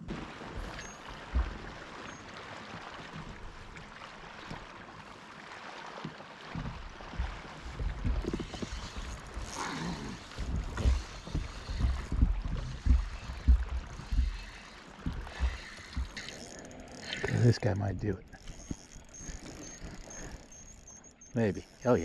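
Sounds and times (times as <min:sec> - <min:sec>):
water lapping against hull: 0:00.0 - 0:22.0.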